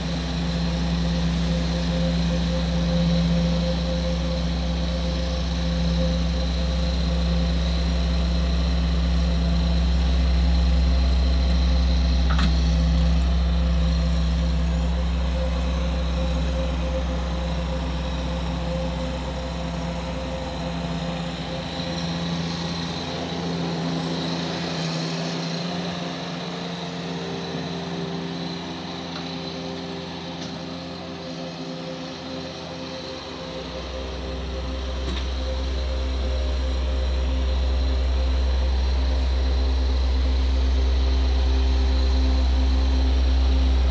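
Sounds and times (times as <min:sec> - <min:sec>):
engine rumbling: 0:00.0 - 0:43.9.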